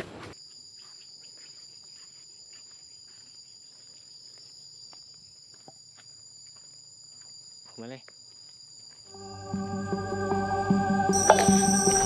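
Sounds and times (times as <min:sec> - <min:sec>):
high-pitched insect drone: 0:00.8 - 0:12.0.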